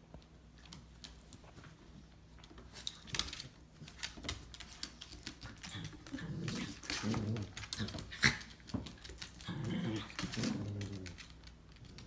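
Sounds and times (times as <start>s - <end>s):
dog paws scuffling: 0.0s - 12.0s.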